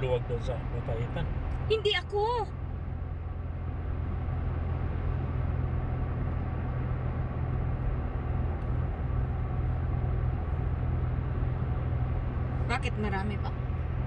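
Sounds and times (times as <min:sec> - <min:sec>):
car engine and tyres humming: 0:00.0 - 0:14.0.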